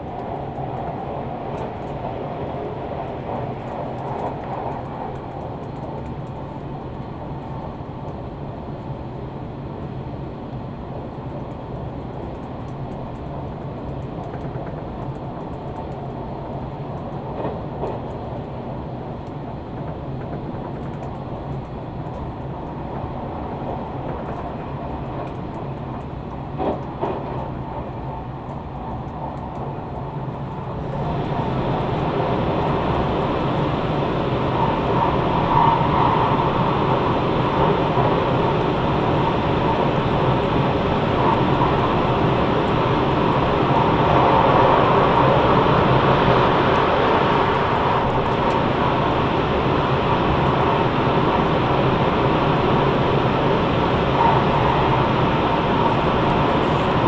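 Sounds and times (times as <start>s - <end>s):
train wheels rumbling: 11.0s - 57.0s.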